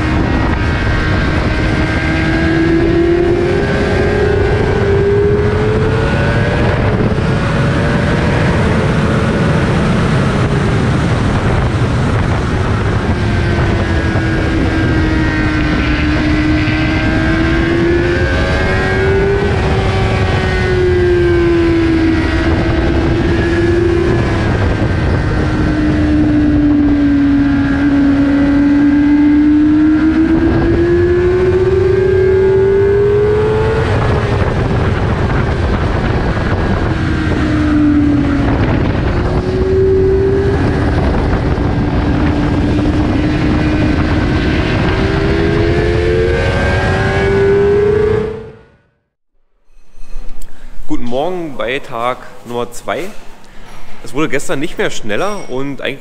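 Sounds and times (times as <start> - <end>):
wind rush: 0.0 - 48.8
motorcycle engine at high revs: 0.0 - 49.0.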